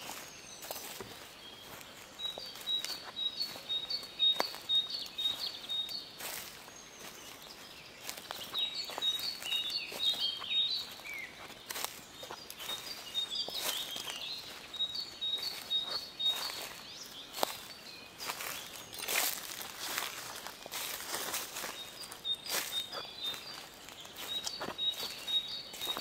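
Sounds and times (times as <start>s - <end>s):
faint outdoor background noise: 0.0s - 26.0s
songbird singing: 0.0s - 26.0s.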